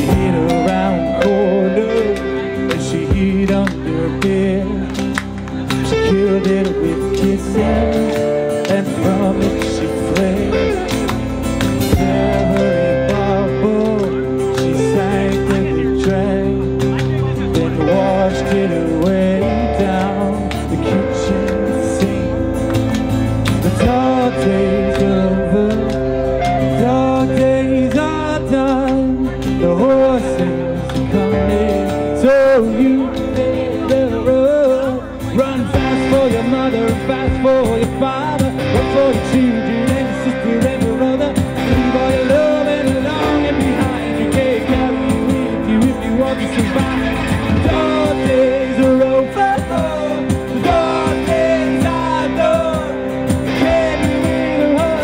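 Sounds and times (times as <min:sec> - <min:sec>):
drums: 0:00.0 - 0:55.0
electric guitar: 0:00.0 - 0:55.0
keyboard: 0:00.0 - 0:55.0
man singing lead: 0:00.0 - 0:55.0
strummed acoustic guitar: 0:00.0 - 0:55.0.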